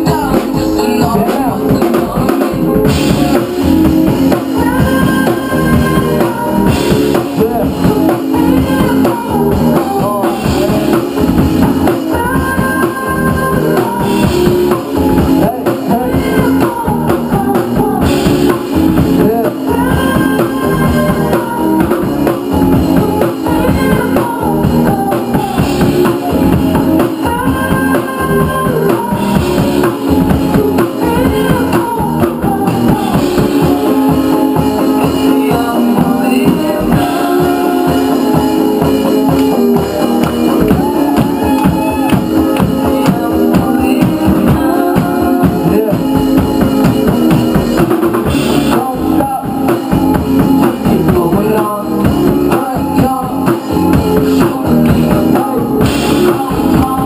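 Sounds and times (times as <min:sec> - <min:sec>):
electric guitar riff: 0:00.0 - 0:51.1
drum kit: 0:00.0 - 0:57.0
live rock band playing: 0:00.0 - 0:57.0
person singing into a microphone: 0:00.0 - 0:57.0.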